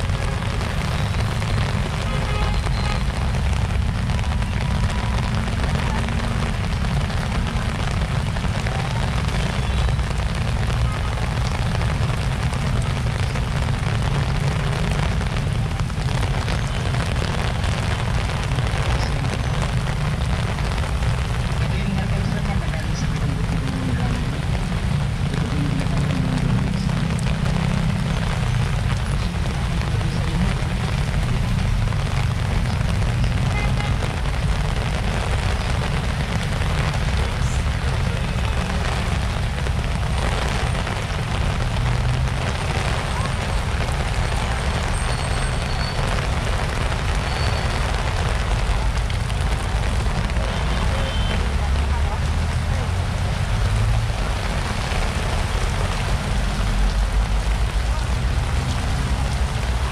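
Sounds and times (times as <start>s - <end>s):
heavy rain pouring on street: 0.0s - 59.9s.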